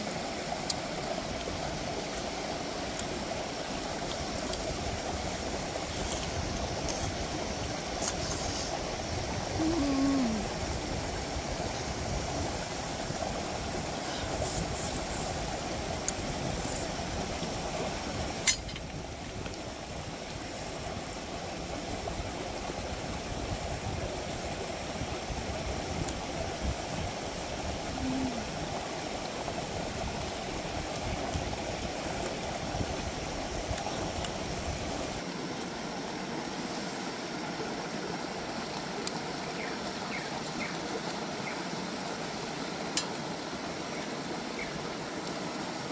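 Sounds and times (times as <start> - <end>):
running water rushing: 0.0 - 45.9.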